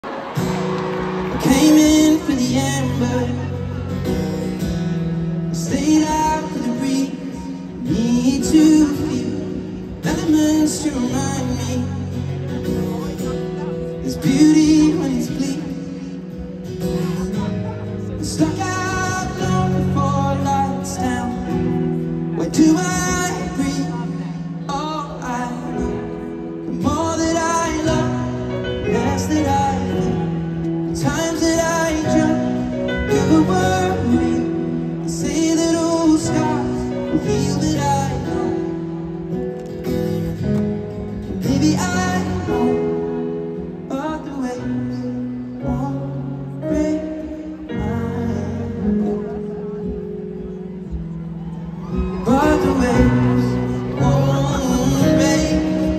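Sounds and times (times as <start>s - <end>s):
acoustic guitar: 0.0s - 55.9s
man singing: 1.3s - 51.1s, 51.8s - 55.9s.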